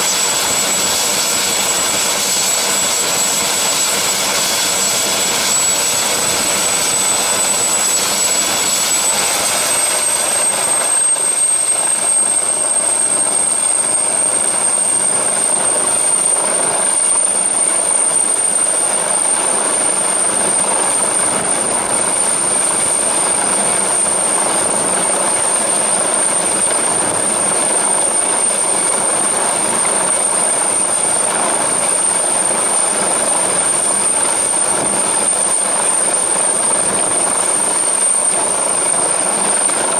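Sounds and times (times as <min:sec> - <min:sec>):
helicopter rotor and turbine noise: 0:00.0 - 0:39.9
high piercing turbine whine: 0:00.0 - 0:39.9.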